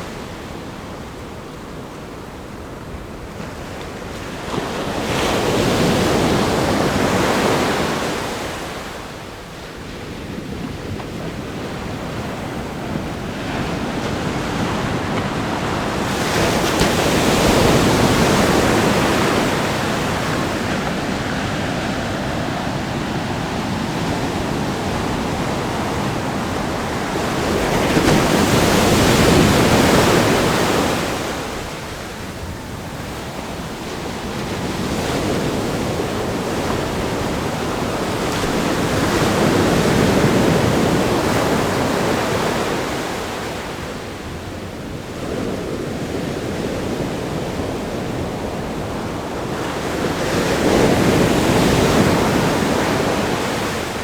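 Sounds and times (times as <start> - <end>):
big waves breaking: 0.0 - 54.0
surf washing up beach: 0.0 - 54.0.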